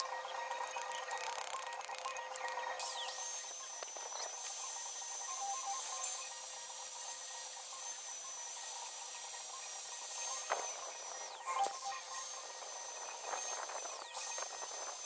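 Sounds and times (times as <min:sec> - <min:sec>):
angle grinder cutting steel: 0:00.0 - 0:15.0.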